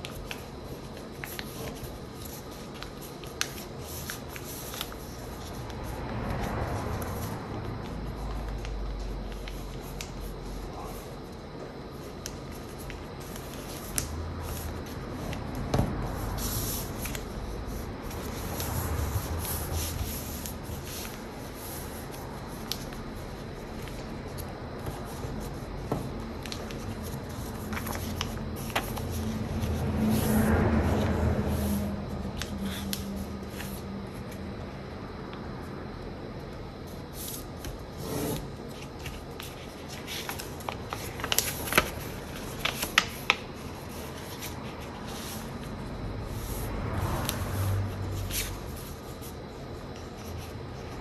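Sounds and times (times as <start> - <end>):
paper rustling and folding: 0.0 - 34.4, 37.1 - 47.5.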